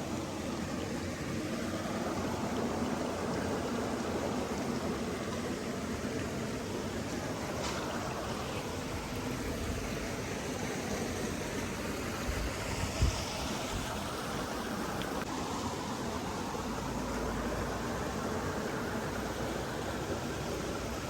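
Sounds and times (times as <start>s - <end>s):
flowing water: 0.0s - 21.0s.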